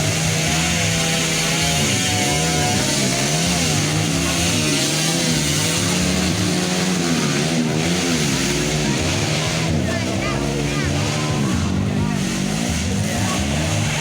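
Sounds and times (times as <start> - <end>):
low engine drone: 0.0 - 14.0
motocross bike engines revving: 0.0 - 14.0.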